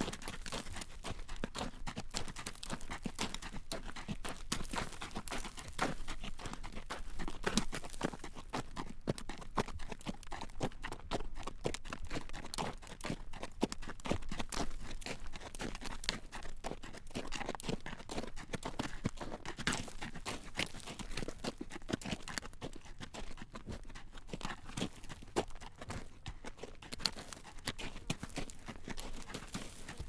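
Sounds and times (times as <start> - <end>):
horse hooves clip-clopping on road: 0.0 - 30.0.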